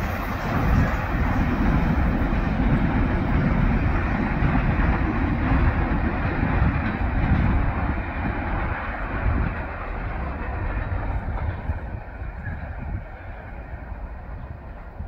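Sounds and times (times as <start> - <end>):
freight train rolling over rails: 0.0 - 15.0.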